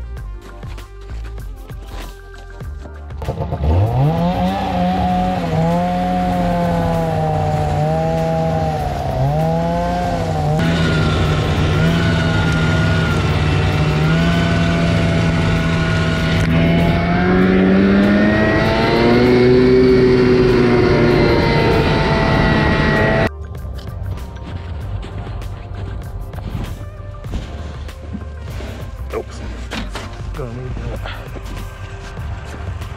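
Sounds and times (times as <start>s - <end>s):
snowmobile engine running: 3.2s - 23.3s, 24.2s - 32.9s.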